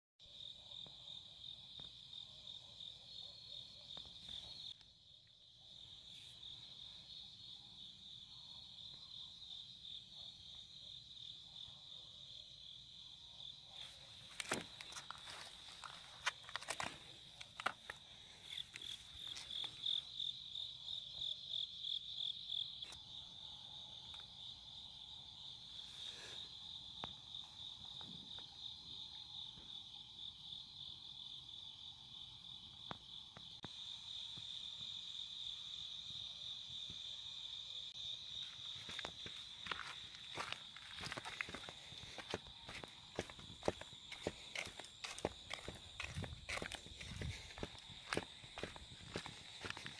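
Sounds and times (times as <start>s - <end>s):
crickets chirping: 0.2s - 49.9s.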